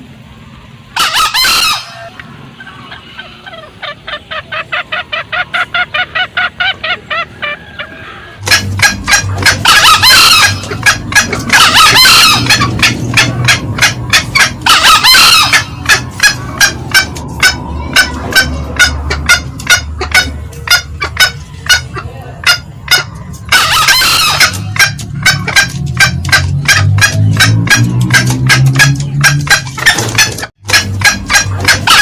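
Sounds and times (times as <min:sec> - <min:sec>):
junglefowl cackling calls: 0:00.9 - 0:32.0
short clucks: 0:01.8 - 0:32.0.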